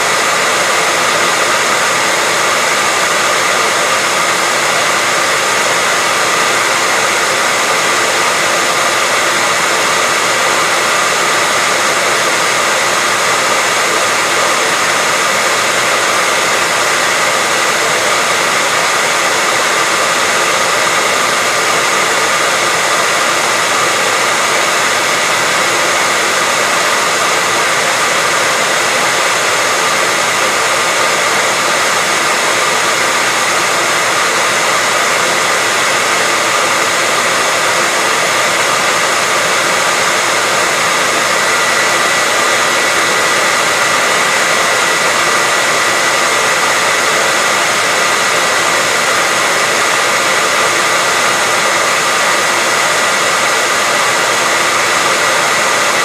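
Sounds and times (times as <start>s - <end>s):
hairdryer running: 0.0s - 56.0s.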